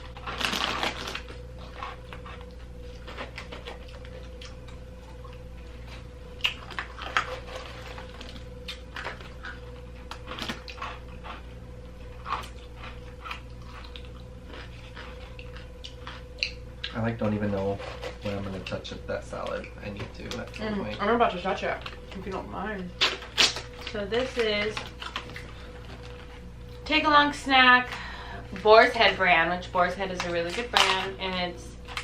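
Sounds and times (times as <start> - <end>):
snack containers crinkling: 0.0 - 32.0
steady electrical hum: 0.0 - 32.0.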